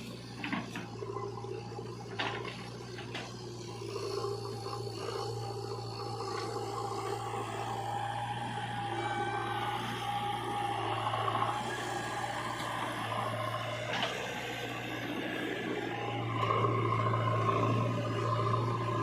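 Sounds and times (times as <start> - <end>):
heavy machinery diesel engines: 0.0 - 19.0.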